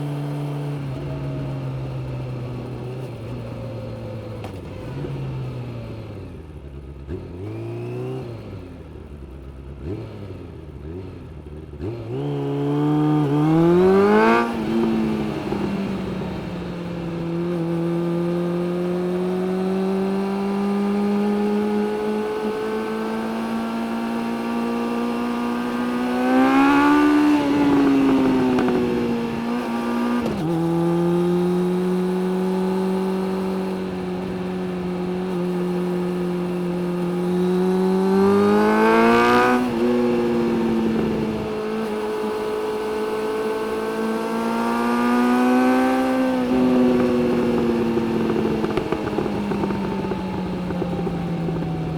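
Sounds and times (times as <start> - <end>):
motorcycle engine accelerating: 0.0 - 51.9.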